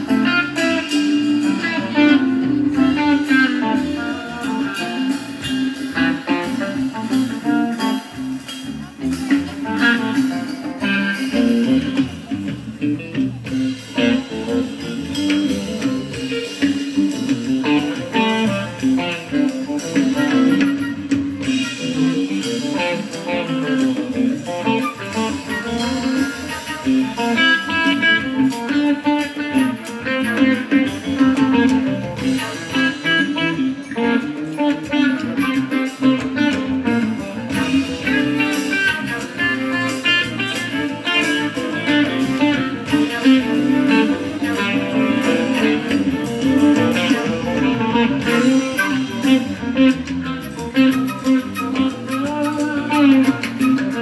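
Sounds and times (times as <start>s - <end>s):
electric guitar: 0.0s - 54.0s
live band playing: 0.0s - 54.0s.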